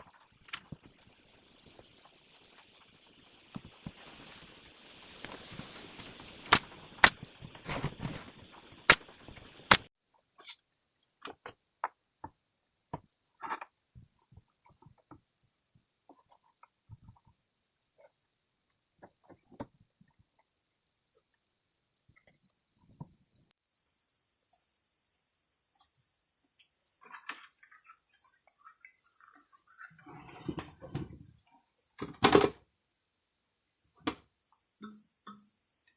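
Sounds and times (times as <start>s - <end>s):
crickets chirring: 0.0s - 35.9s.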